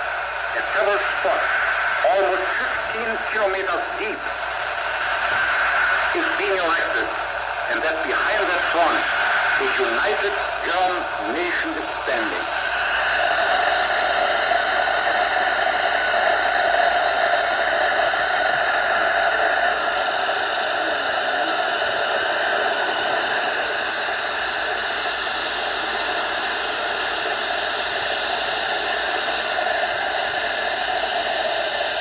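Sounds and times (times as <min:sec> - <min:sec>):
radio static: 0:00.0 - 0:32.0.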